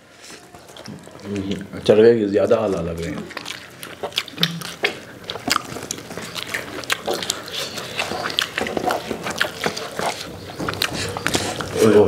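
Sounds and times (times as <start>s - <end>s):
chewing and lip-smacking: 0.2s - 12.0s.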